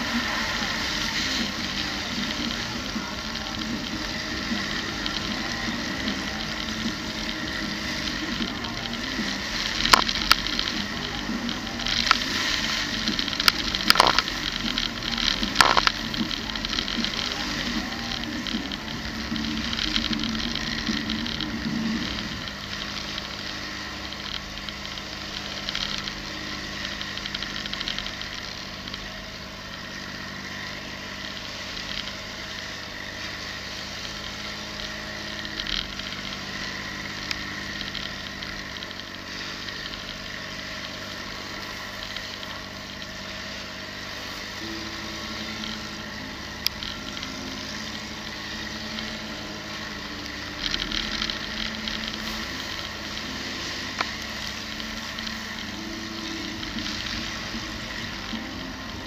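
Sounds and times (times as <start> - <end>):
off-road vehicle engine running: 0.0 - 59.0
steady hiss: 0.0 - 59.0.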